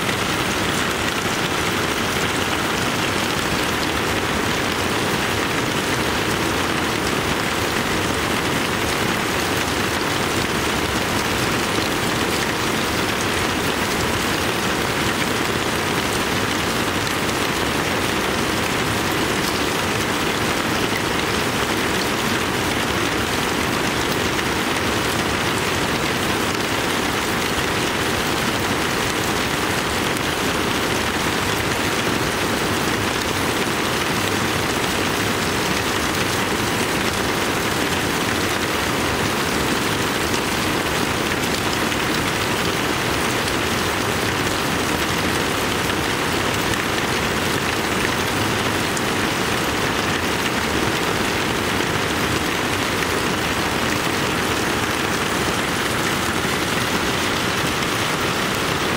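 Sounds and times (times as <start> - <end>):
heavy rain on leaves: 0.0 - 58.9
water streaming off roof: 0.0 - 58.9.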